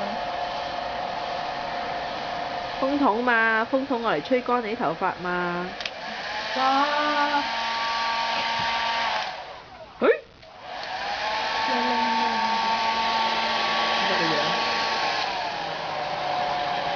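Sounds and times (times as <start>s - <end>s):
hair dryer blowing: 0.0s - 9.7s, 10.5s - 16.9s.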